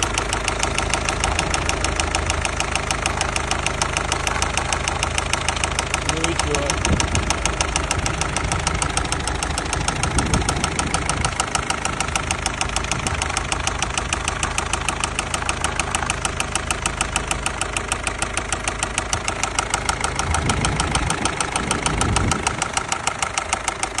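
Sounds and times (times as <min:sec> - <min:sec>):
diesel engine idling with clatter: 0:00.0 - 0:24.0.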